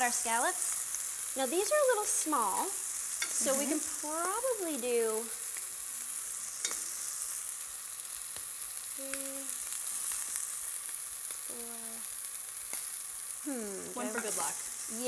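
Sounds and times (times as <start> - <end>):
scallops sizzling in a pan: 0.0 - 15.0.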